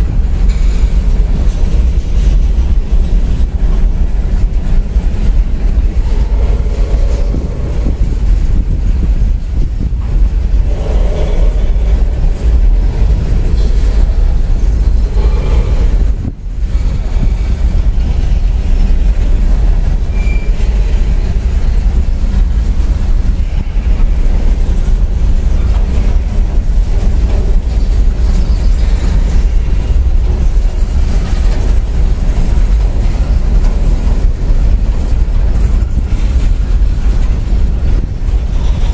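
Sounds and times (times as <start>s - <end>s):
steel train wheels rumbling on rails: 0.0s - 38.9s.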